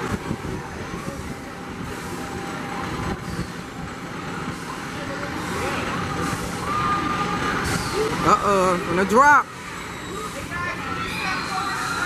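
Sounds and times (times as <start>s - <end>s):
people's voices: 0.0s - 12.0s
roller coaster rumbling: 0.0s - 12.0s.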